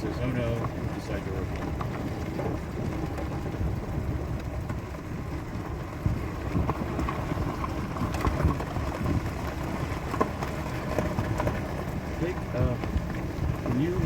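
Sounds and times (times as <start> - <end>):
vehicle engine and tyre rumble: 0.0 - 14.0
wind: 0.0 - 14.0.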